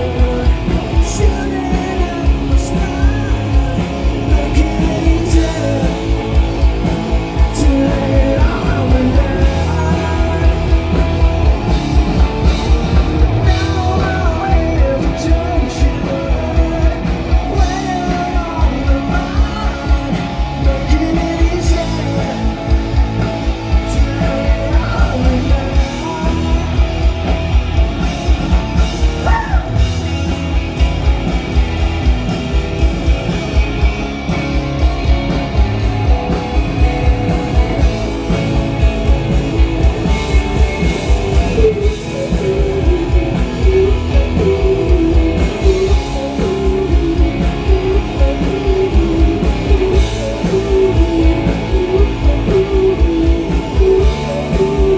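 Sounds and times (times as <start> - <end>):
bass guitar: 0.0 - 54.9
drum kit beat: 0.0 - 54.9
electric guitars: 0.0 - 54.9.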